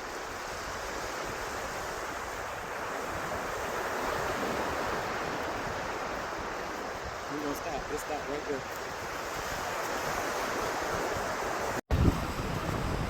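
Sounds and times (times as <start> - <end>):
ocean surf washing: 0.0 - 13.0.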